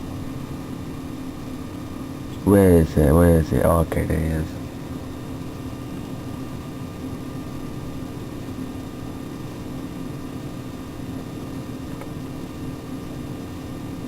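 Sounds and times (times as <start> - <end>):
low machine hum and hiss: 0.0 - 14.0.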